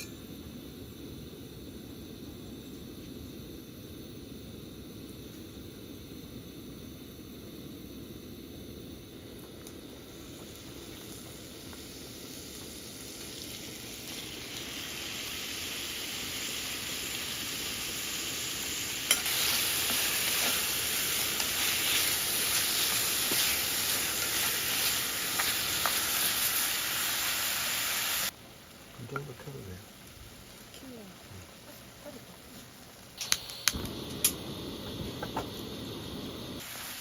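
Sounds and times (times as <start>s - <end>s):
food sizzling in a pan: 7.3s - 37.0s.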